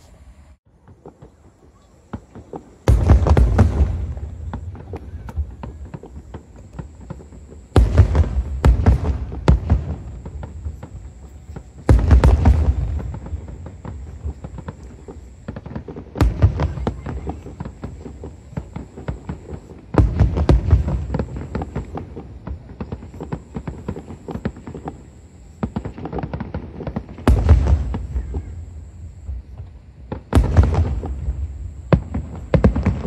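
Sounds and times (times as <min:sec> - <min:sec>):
fireworks crackling and popping: 0:00.0 - 0:33.0
firework booms: 0:00.8 - 0:33.0.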